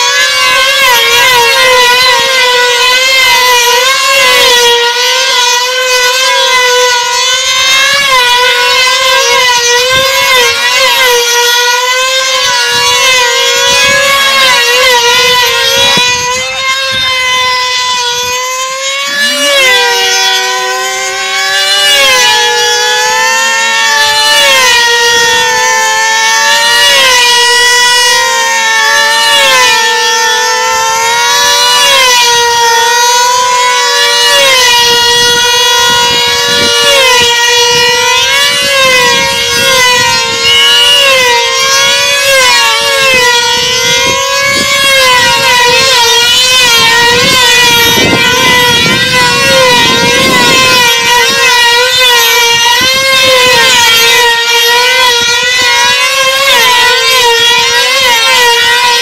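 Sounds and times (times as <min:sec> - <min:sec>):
model aircraft engines screaming: 0:00.0 - 0:59.0.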